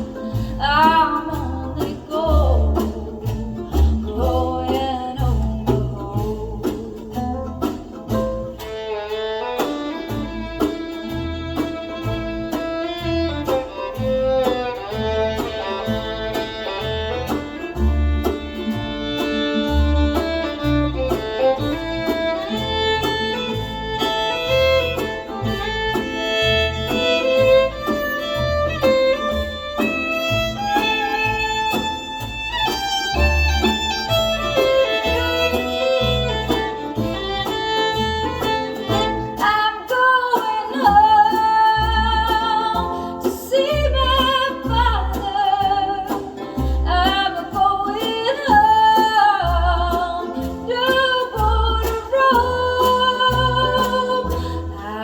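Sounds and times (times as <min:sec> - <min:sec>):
fiddle melody: 0:00.0 - 0:55.0
guitar: 0:00.0 - 0:55.0.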